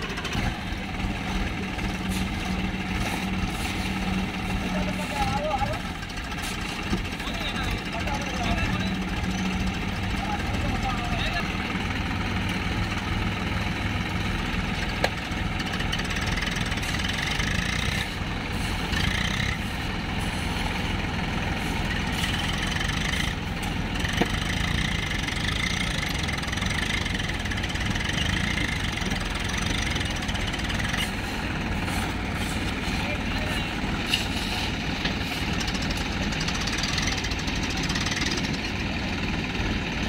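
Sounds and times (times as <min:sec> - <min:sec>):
tractor diesel engines running: 0:00.0 - 0:40.0.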